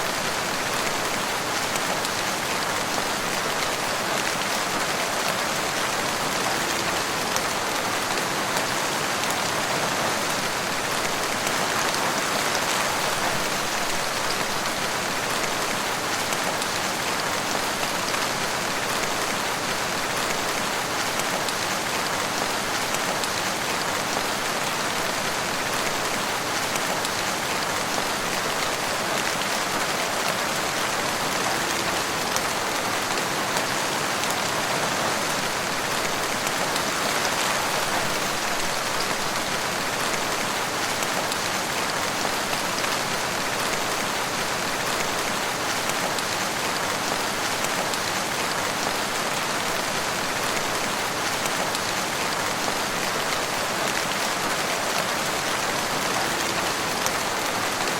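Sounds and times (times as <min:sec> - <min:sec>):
rain falling in a forest: 0:00.0 - 0:57.9.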